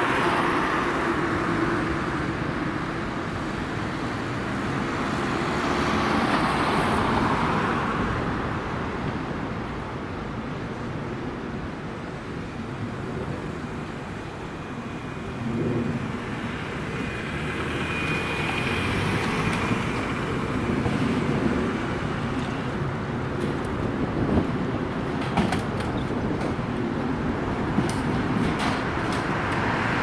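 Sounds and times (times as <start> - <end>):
vehicle engine and traffic noise: 0.0 - 30.0.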